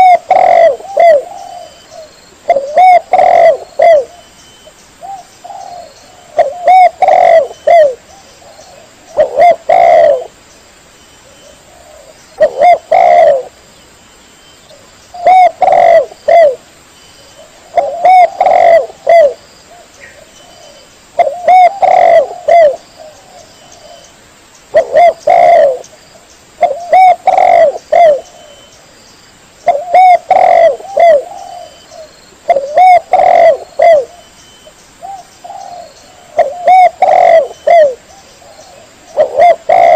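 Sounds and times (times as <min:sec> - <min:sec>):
dove cooing: 0:00.0 - 0:04.3, 0:05.0 - 0:10.4, 0:11.2 - 0:13.6, 0:14.7 - 0:16.6, 0:17.3 - 0:24.1, 0:24.7 - 0:25.9, 0:26.6 - 0:28.7, 0:29.6 - 0:39.9.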